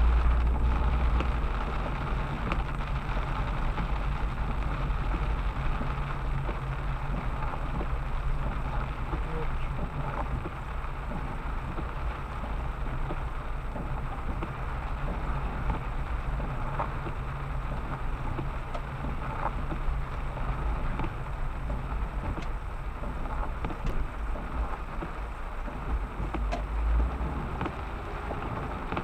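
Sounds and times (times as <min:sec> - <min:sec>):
rain rushing: 0:00.0 - 0:29.0
wind rumbling on microphone: 0:00.0 - 0:29.0.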